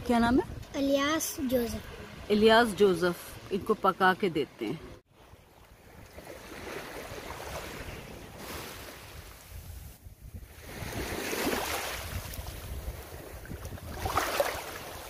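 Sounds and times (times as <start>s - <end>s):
wind rumbling on microphone: 0.0s - 3.6s, 5.2s - 15.0s
waves lapping at shore: 1.4s - 15.0s.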